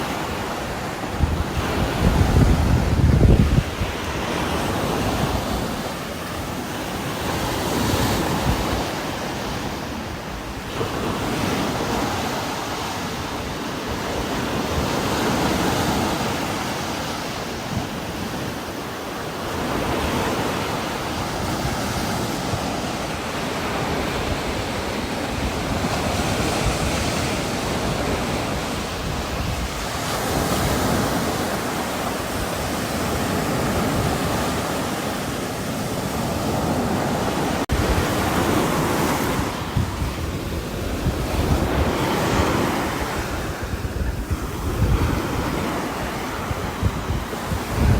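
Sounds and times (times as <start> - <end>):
wind gusting through trees: 0.0 - 47.9.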